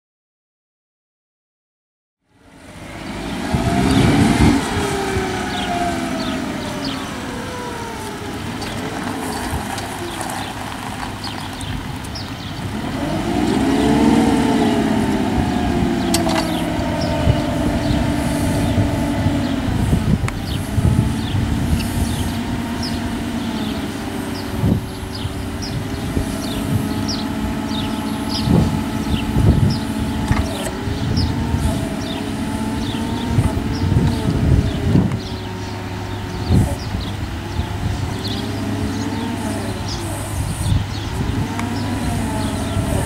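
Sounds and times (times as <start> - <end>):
forklift engine revving: 2.3 - 43.0.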